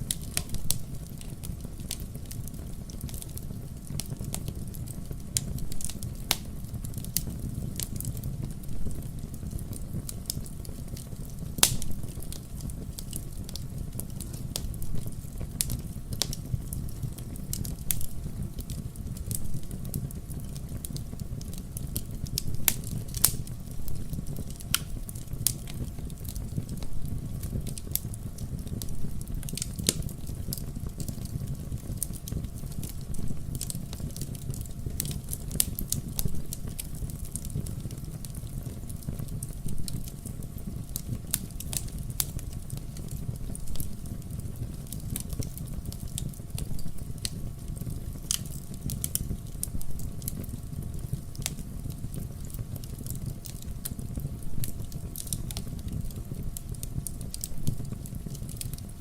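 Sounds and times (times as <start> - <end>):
fire burning in fireplace: 0.0 - 59.0.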